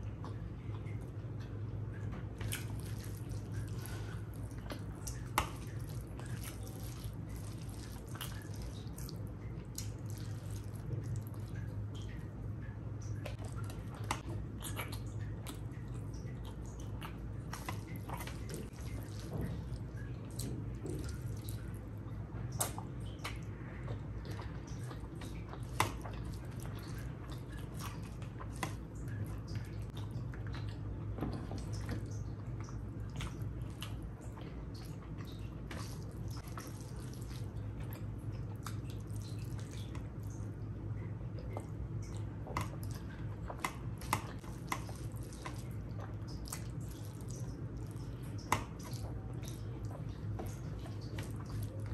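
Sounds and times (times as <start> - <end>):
lip smacks and chewing: 0.0 - 51.9
steady low hum: 0.0 - 51.9
wet squelching eating: 0.0 - 51.9.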